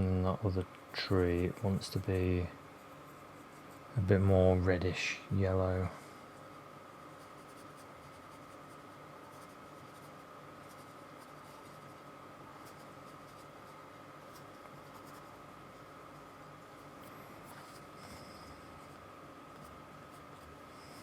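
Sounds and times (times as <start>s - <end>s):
thin background whine: 0.0s - 21.0s
paintbrush strokes on canvas: 0.9s - 4.0s, 6.4s - 21.0s.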